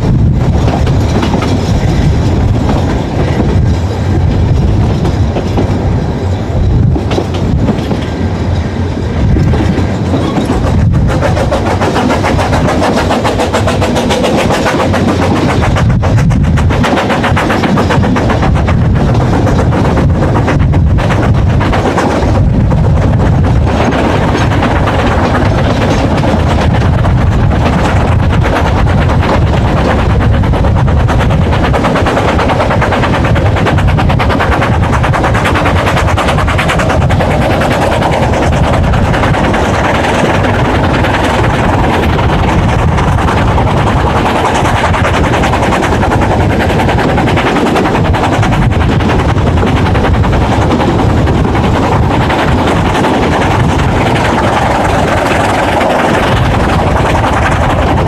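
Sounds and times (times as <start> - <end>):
train running rumble: 0.0 - 58.0
wind buffeting microphone: 0.0 - 58.0.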